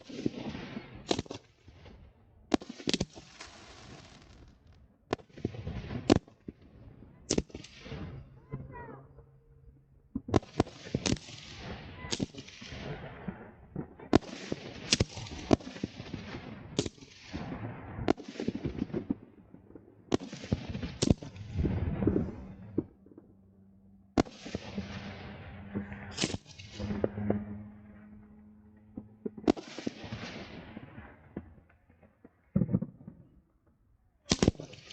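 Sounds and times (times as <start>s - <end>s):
fireworks crackling: 0.0s - 1.5s, 2.5s - 6.6s, 7.2s - 9.0s, 10.1s - 23.4s, 24.2s - 33.3s, 34.3s - 34.9s
fireworks bangs: 0.0s - 33.4s, 34.3s - 34.9s.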